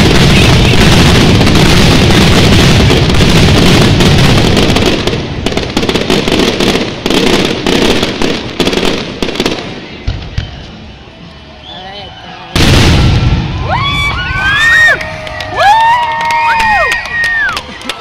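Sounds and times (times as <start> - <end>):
fireworks bangs: 0.0 - 11.1, 12.5 - 17.5.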